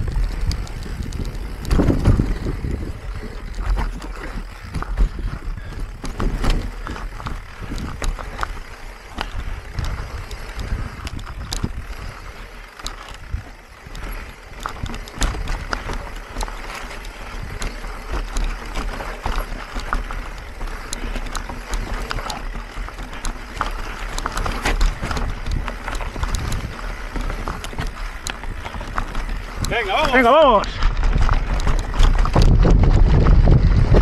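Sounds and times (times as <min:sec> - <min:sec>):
bike clicks and rattles: 0:00.0 - 0:34.0
wind buffeting microphone: 0:00.0 - 0:34.0.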